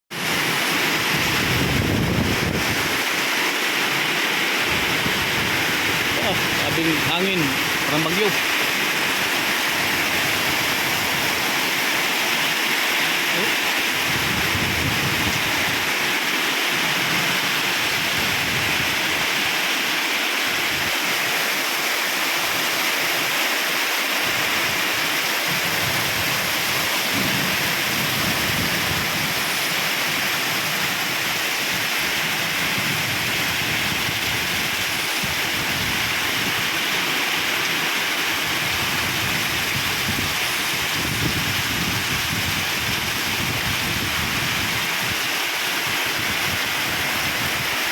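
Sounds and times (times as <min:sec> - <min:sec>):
heavy rain: 0:00.1 - 0:47.9
storm wind gusts: 0:00.1 - 0:47.9.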